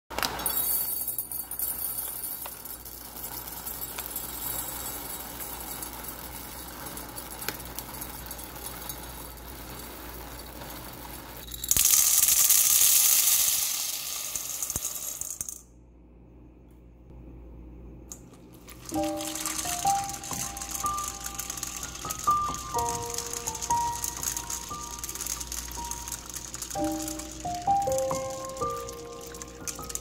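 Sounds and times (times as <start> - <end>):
beans rattling into a glass cup: 0.4 - 15.6, 18.6 - 30.0
beans pouring into a steel bowl: 0.5 - 15.6, 18.6 - 30.0.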